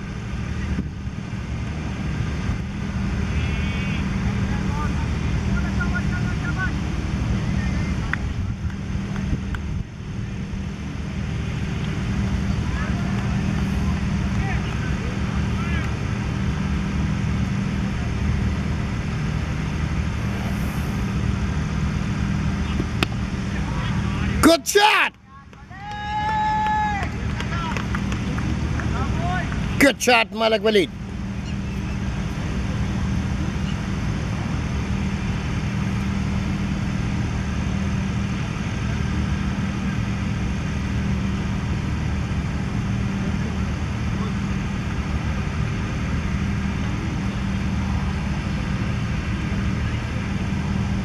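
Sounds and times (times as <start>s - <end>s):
low engine hum: 0.0s - 51.0s
low mechanical drone: 0.0s - 51.0s.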